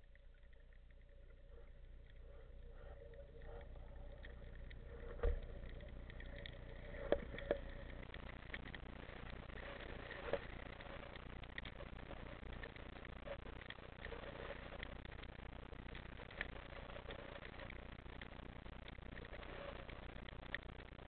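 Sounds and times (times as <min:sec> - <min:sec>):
faint steady hum: 0:00.0 - 0:21.0
underwater low rumble: 0:00.0 - 0:21.0.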